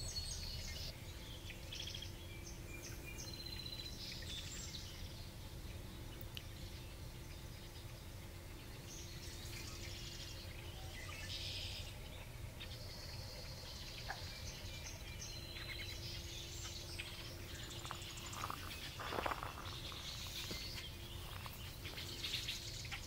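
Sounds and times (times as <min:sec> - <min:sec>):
faint steady hum: 0:00.0 - 0:23.0
low background rumble: 0:00.0 - 0:23.0
small birds chirping: 0:00.0 - 0:23.0.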